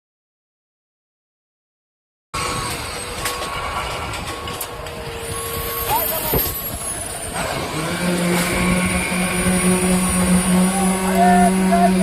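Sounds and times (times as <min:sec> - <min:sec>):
high whining glides: 0:02.4 - 0:12.0
low engine hum: 0:02.4 - 0:12.0.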